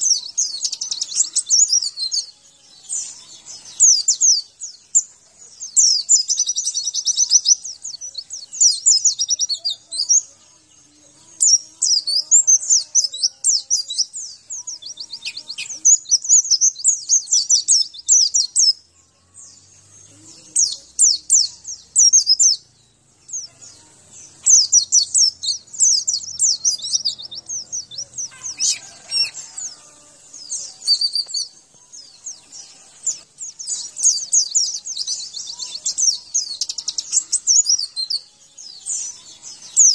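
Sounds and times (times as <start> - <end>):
high-pitched bird twittering: 0.0 - 5.1, 5.7 - 10.3, 11.3 - 18.8, 20.5 - 22.7, 24.3 - 39.9.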